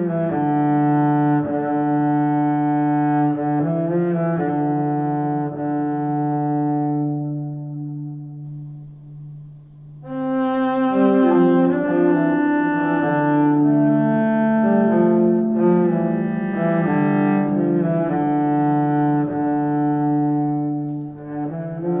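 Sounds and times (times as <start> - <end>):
bowed strings music: 0.0 - 22.0.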